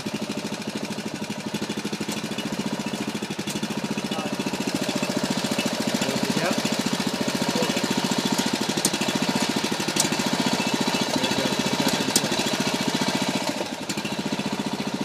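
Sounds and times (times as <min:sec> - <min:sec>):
small gas engine chugging: 0:00.0 - 0:15.0.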